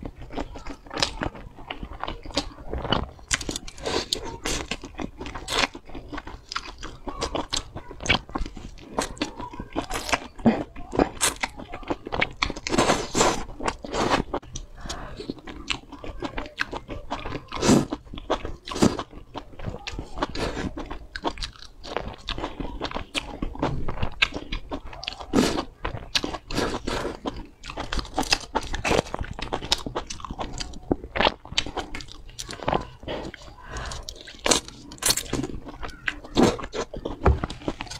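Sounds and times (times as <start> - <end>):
crunchy chewing: 0.0 - 37.9.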